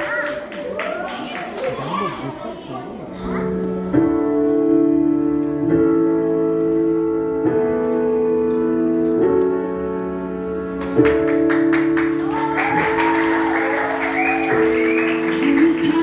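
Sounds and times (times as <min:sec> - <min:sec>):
electronic keyboard chords: 0:03.1 - 0:16.0.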